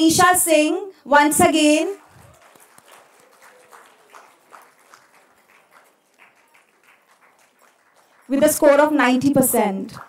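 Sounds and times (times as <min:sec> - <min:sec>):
audience clapping: 0:01.8 - 0:10.0.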